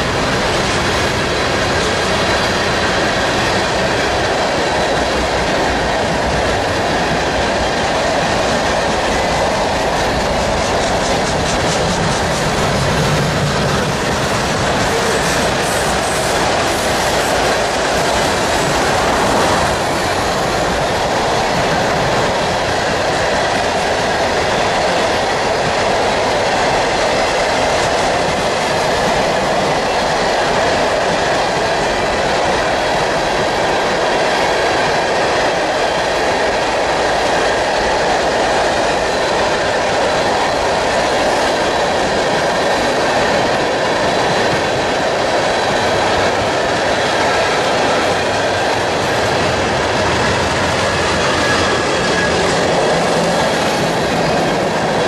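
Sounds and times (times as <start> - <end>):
clickety-clack over rail joints: 0.0 - 55.0
train wheels running on rails: 0.0 - 55.0.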